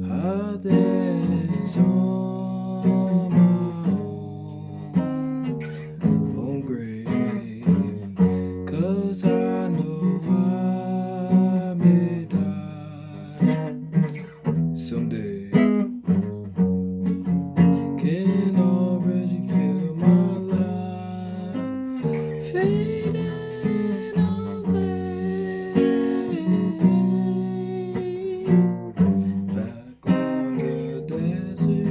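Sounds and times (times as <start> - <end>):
guitar chords strummed: 0.0 - 31.9.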